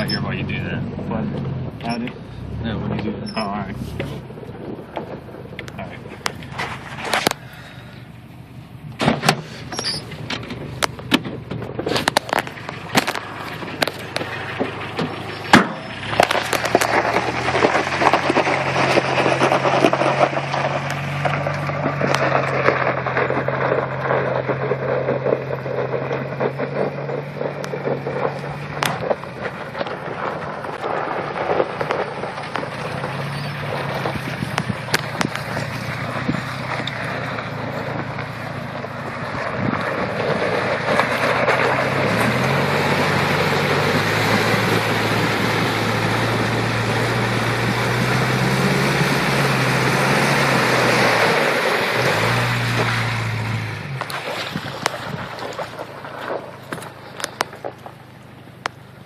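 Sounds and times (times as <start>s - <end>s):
truck engine running: 0.0s - 59.0s
tyres on dirt and gravel: 0.0s - 59.0s
water splashing around tyres: 0.0s - 59.0s.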